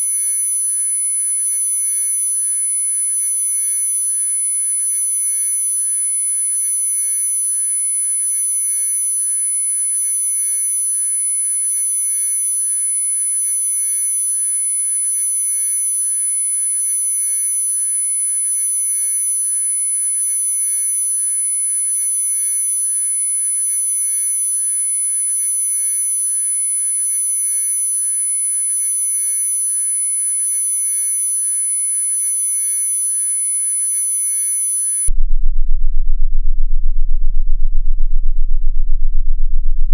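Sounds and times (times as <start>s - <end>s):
high-pitched sine tone whine: 0.0s - 39.9s
low sine tones: 0.0s - 39.9s.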